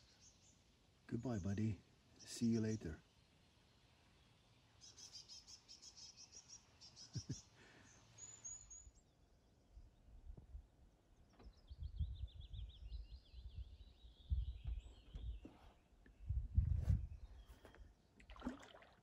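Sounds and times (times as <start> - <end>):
small songbirds singing: 0.0 - 18.9.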